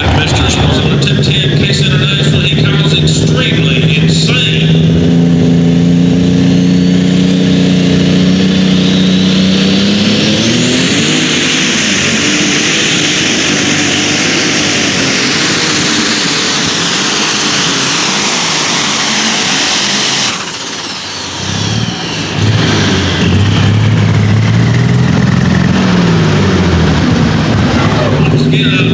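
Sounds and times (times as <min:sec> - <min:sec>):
engine whining at full throttle: 0:00.0 - 0:28.9.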